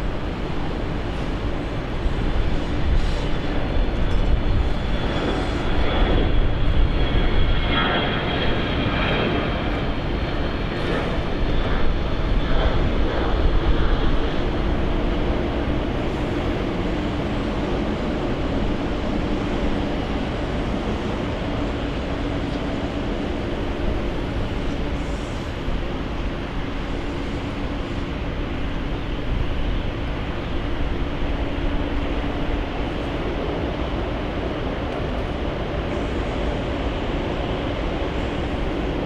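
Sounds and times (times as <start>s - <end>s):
jet engines running: 0.0s - 39.0s.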